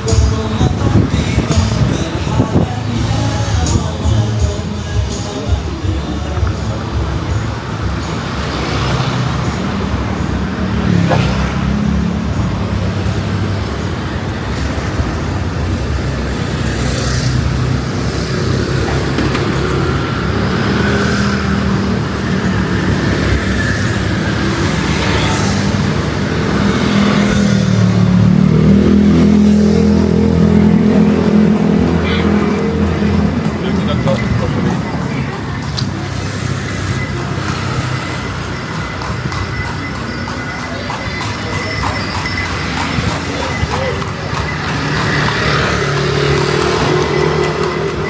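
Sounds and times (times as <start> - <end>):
low traffic rumble: 0.0 - 48.0
vehicles passing: 0.0 - 48.0.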